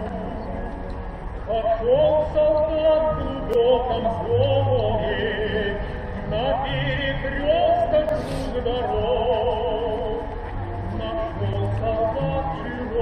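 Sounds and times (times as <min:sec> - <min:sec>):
music: 0:00.0 - 0:13.0
person singing with vibrato: 0:01.5 - 0:13.0.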